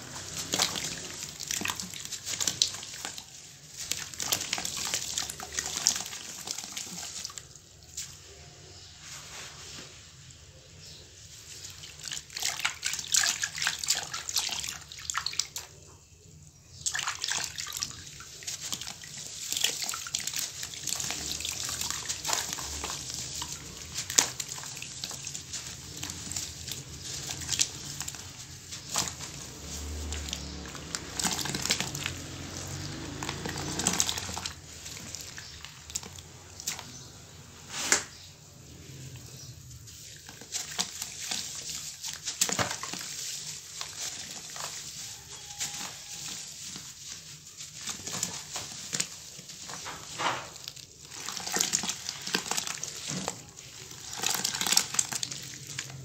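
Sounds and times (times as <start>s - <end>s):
water splashing and dripping: 0.0s - 8.3s, 11.3s - 16.0s, 16.7s - 56.0s.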